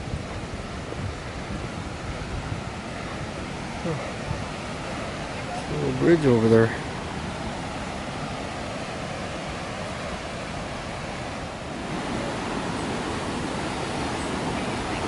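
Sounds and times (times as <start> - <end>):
river rushing through rocky gorge: 0.0 - 15.0.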